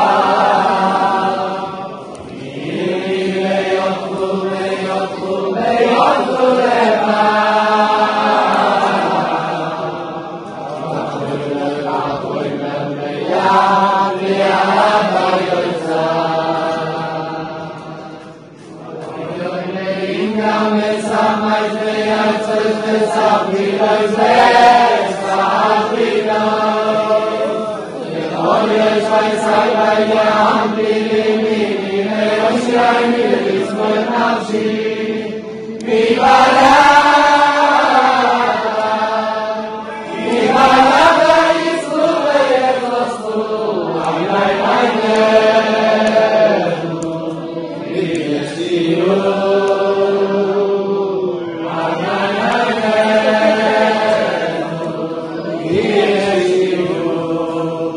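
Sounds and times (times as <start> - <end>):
men chanting a slow melody: 0.0 - 57.9.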